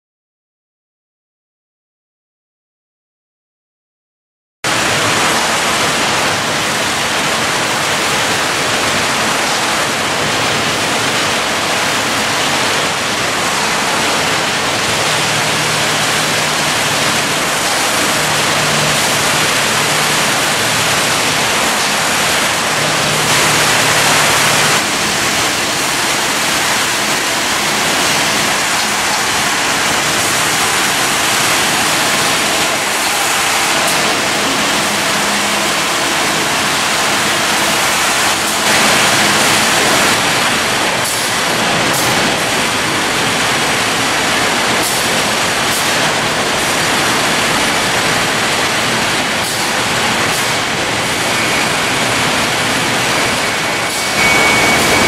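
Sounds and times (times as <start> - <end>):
sawmill machinery noise: 4.7 - 55.0.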